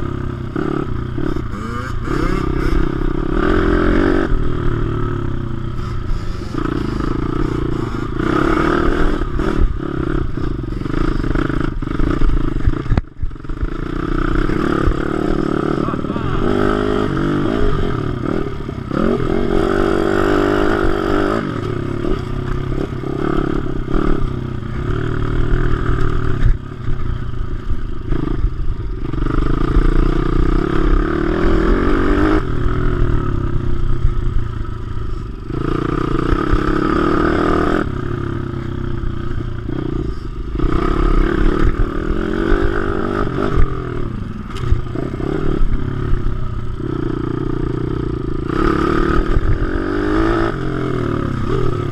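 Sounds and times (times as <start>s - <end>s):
pit bike engine revving: 0.0s - 27.0s, 27.6s - 34.2s, 34.8s - 51.9s.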